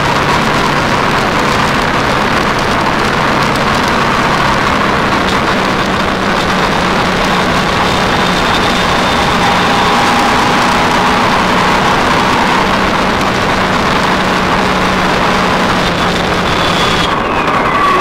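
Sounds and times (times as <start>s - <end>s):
motorcycle engine drone: 0.0s - 18.0s
wind rush on microphone: 0.0s - 18.0s.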